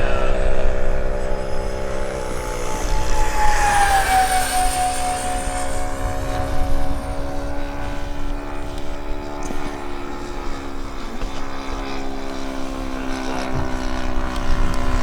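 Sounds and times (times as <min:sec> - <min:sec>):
model jet motor whine: 0:00.0 - 0:15.0.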